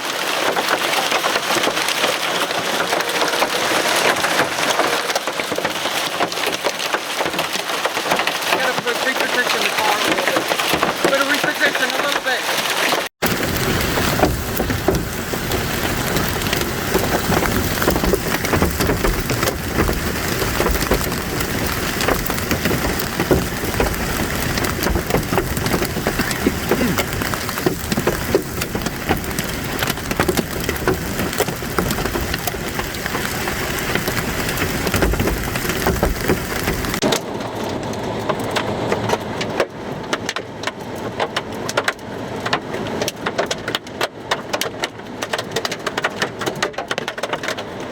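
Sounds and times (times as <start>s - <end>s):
heavy rain pattering: 0.0s - 47.9s.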